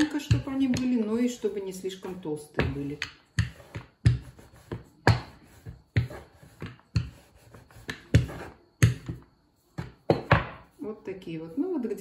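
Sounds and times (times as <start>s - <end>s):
rolling pin on wooden board: 0.0s - 10.8s.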